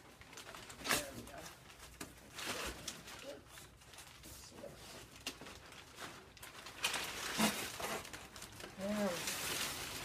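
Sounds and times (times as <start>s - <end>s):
packing paper and cardboard rustling: 0.0s - 10.0s.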